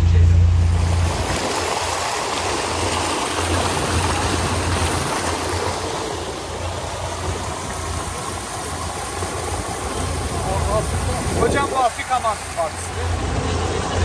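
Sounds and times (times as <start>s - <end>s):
boat engine humming: 0.0s - 14.0s
water rushing past hull: 0.0s - 14.0s.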